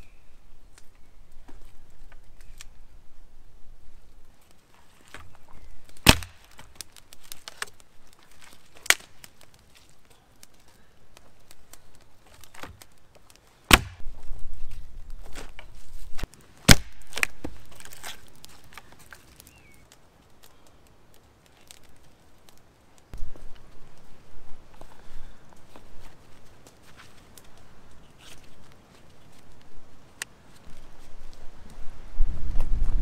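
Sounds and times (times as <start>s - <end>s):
twigs snapping and rustling: 0.1s - 2.9s, 4.1s - 31.8s
sticks cracking: 4.4s - 31.2s.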